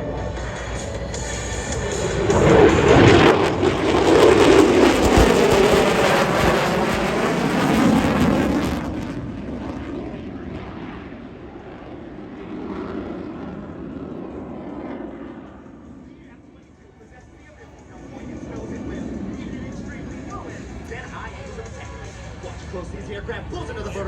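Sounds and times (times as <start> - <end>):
loud fighter jet passing: 0.0 - 23.9.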